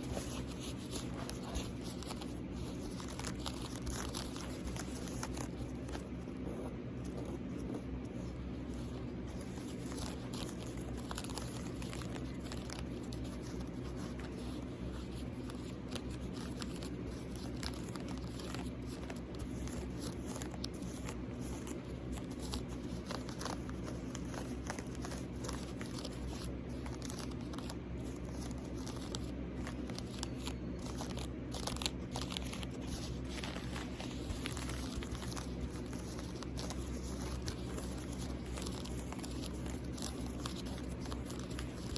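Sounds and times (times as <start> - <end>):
constant low hum: 0.0 - 41.9.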